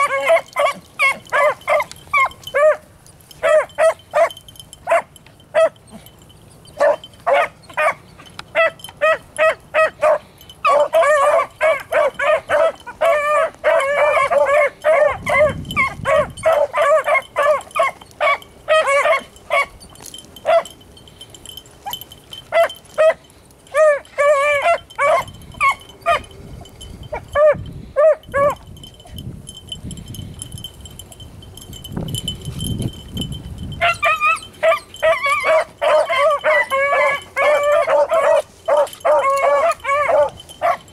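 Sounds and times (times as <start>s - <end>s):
beagles baying: 0.0s - 40.9s.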